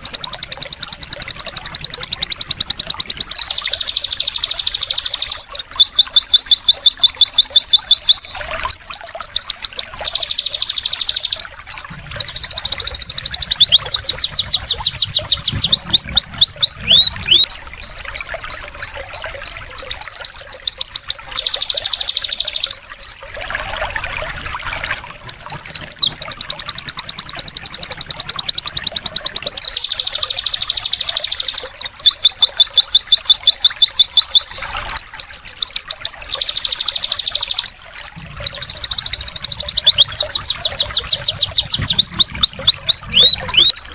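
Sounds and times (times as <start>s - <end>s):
bird singing rapid trills: 0.0s - 43.9s
faint water trickle: 0.0s - 43.9s.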